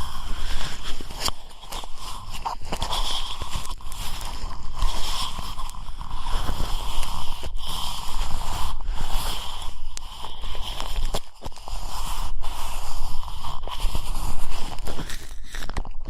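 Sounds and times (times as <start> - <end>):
ear pick scraping microphone: 0.0 - 16.0.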